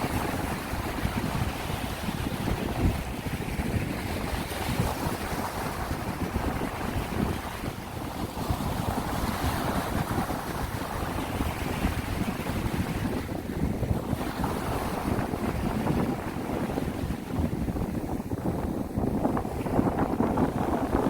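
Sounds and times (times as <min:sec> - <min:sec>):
sea waves washing in: 0:00.0 - 0:21.0
wind gusting across microphone: 0:00.0 - 0:21.0.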